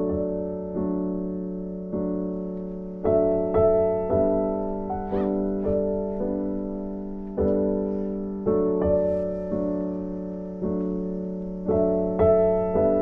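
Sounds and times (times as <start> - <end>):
gentle solo piano: 0.0 - 13.0.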